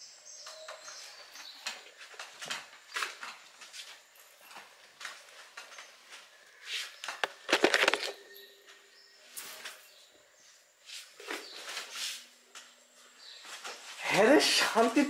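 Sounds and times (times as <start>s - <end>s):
soft rustling and handling noises: 0.4s - 14.0s.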